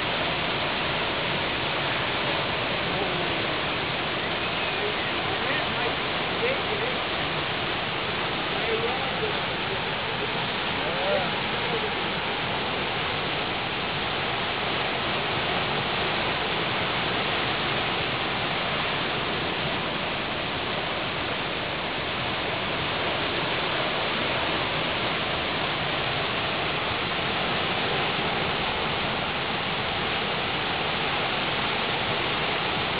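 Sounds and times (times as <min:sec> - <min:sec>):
river rapids roaring: 0:00.0 - 0:32.9.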